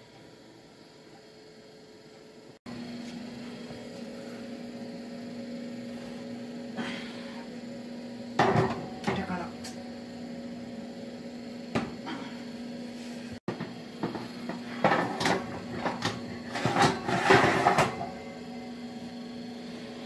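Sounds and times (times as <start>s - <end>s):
electric oven humming: 0.0s - 20.0s.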